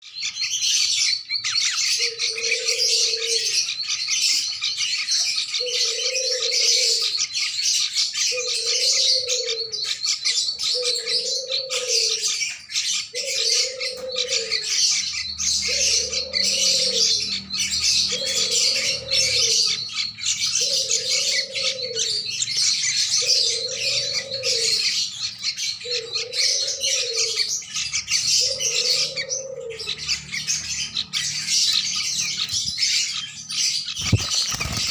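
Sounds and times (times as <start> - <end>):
young bird begging chirps: 0.0 - 34.9.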